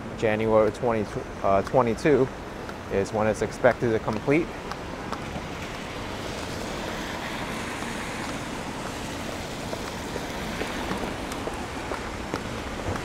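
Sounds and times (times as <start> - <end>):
traffic on wet pavement: 0.0 - 13.0.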